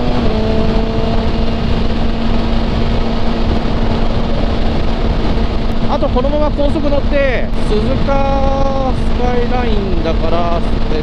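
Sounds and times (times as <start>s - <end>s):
motorcycle engine cruising: 0.0s - 11.0s
wind and road rush: 0.0s - 11.0s.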